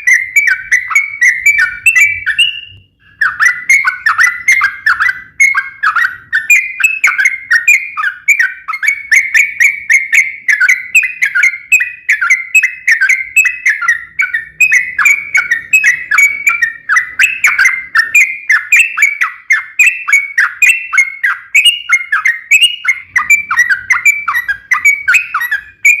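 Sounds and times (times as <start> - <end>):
bird chattering song: 0.0 - 26.0.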